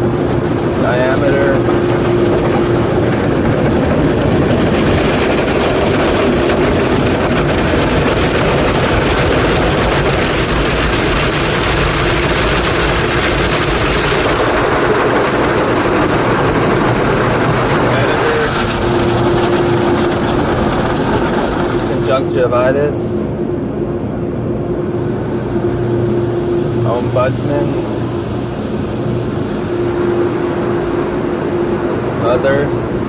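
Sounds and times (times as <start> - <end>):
continuous loud noise: 0.0 - 33.0
low rumble: 0.0 - 33.0.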